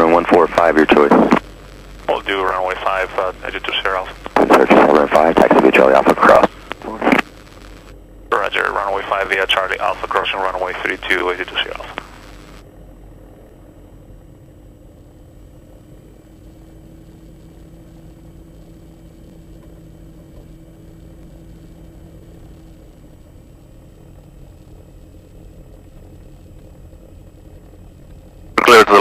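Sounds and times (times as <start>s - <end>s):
aircraft engines droning: 0.0s - 29.0s
steady hum: 0.0s - 29.0s.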